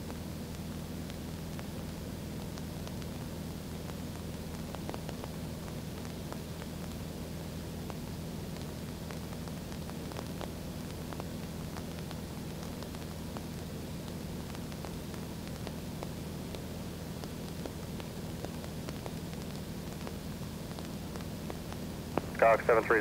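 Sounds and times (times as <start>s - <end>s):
constant hiss: 0.0s - 23.0s
light aircraft engine and propeller drone: 0.0s - 23.0s.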